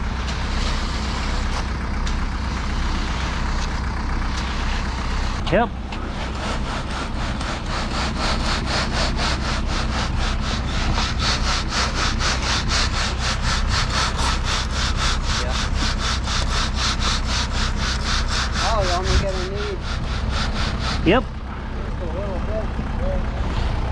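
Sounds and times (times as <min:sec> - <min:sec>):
rasping scrape: 0:00.0 - 0:21.5
concrete truck low hum: 0:00.0 - 0:23.9.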